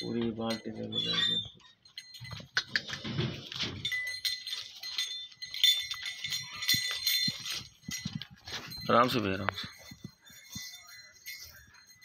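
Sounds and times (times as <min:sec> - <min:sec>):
metallic jingling: 0:00.0 - 0:12.0.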